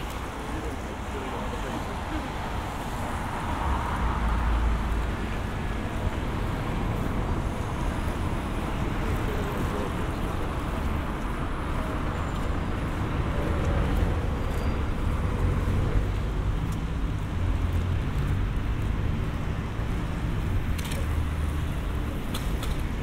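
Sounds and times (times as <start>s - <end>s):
passing cars rumbling: 0.0s - 23.0s.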